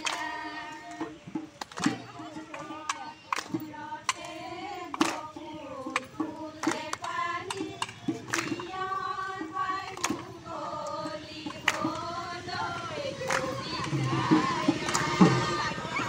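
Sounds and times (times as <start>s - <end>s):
sharp claps: 0.0s - 16.0s
women singing in unison: 0.0s - 16.0s.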